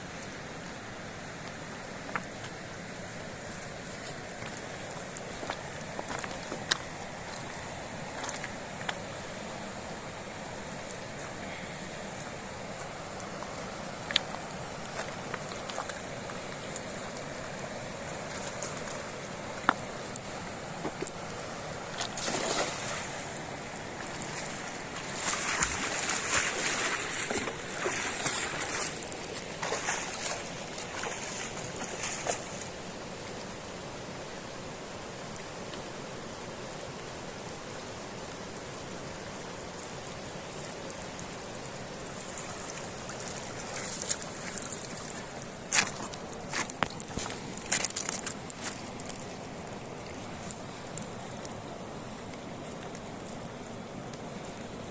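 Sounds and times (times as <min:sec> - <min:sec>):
running water: 0:00.0 - 0:54.9
water splashing and sloshing: 0:00.1 - 0:33.9, 0:39.2 - 0:54.9.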